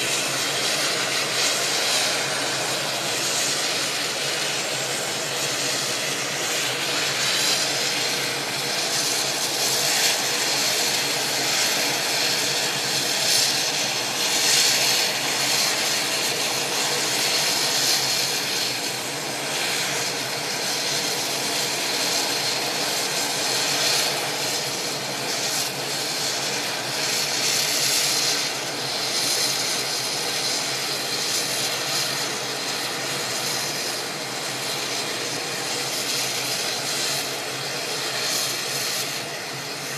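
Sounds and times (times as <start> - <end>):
helicopter turbine engines running: 0.0 - 39.9.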